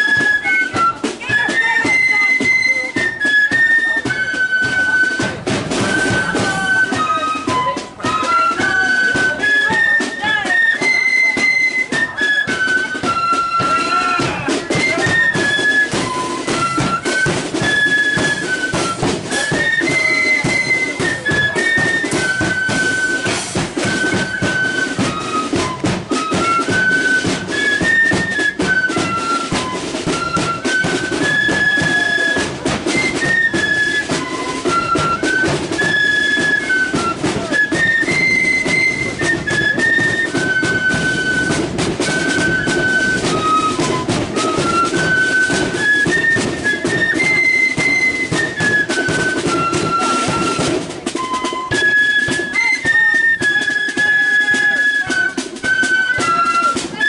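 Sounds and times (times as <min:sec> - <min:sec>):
flutes playing melody: 0:00.0 - 0:57.0
marching drum beat: 0:00.0 - 0:57.0.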